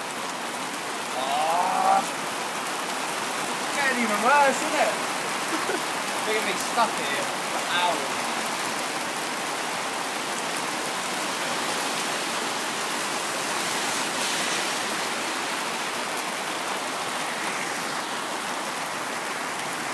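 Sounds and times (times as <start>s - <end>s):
heavy rain on a shelter roof: 0.0s - 19.9s.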